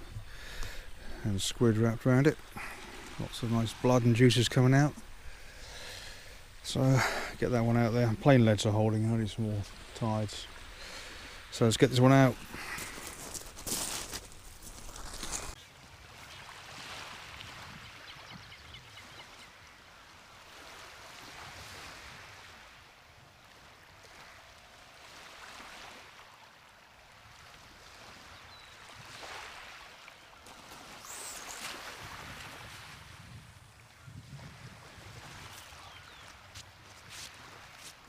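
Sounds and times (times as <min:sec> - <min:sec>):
rustle: 0:00.0 - 0:38.0
small waves washing on beach: 0:00.0 - 0:38.0.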